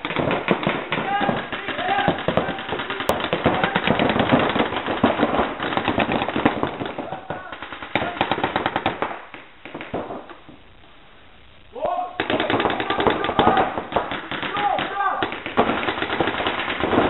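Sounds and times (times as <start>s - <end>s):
paintball markers firing rapidly: 0.0s - 10.4s, 12.2s - 17.0s.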